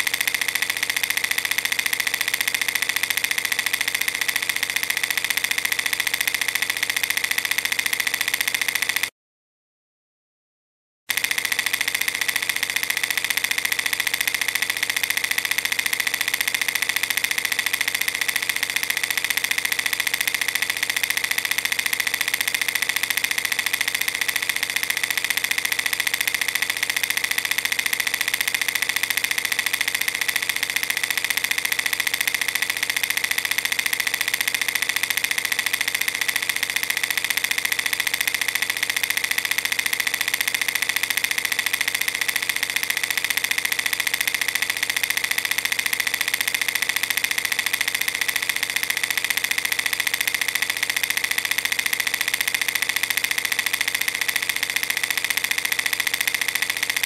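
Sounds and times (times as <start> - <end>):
film projector rattling: 0.0 - 9.1, 11.1 - 57.0.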